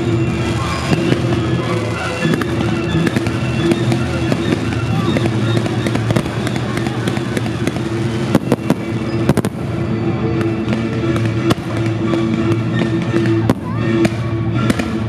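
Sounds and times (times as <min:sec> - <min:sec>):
fireworks bangs and crackles: 0:00.0 - 0:15.0
music soundtrack: 0:00.0 - 0:15.0.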